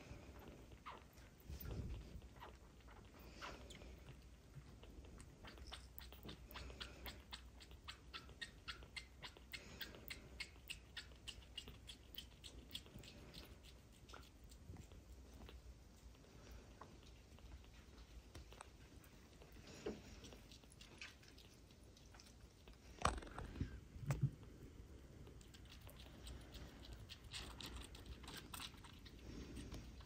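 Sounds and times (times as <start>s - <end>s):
kitten suckling wet clicks: 0.1s - 30.0s.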